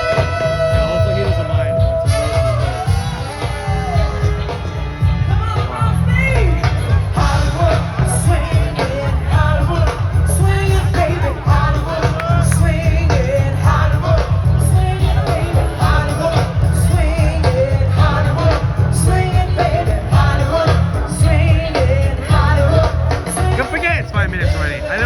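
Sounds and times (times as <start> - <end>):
song with heavy bass: 0.0 - 25.0.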